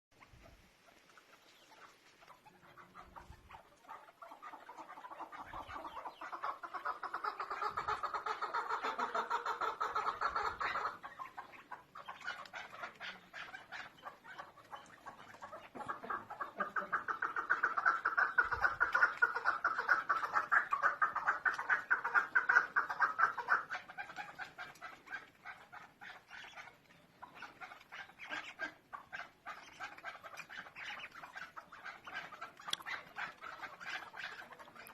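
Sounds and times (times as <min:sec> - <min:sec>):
partridge clucking calls: 0:00.1 - 0:34.9.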